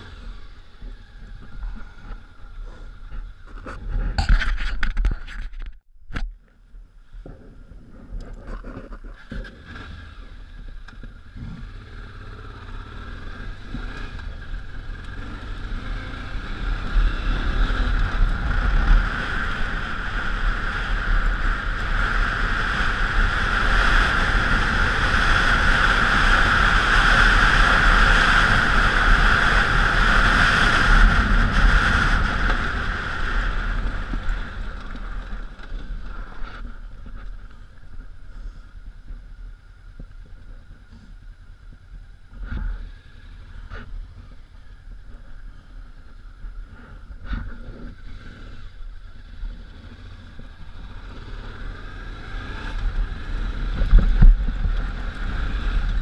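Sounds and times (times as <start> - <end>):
motorcycle engine running: 9.1 - 56.0.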